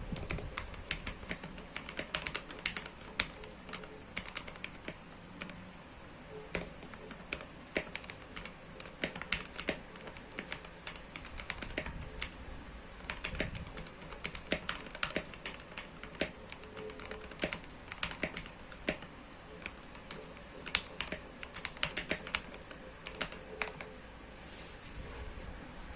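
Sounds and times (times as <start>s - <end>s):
typing on mechanical keyboard: 0.0s - 5.6s, 6.5s - 12.4s, 13.0s - 23.9s.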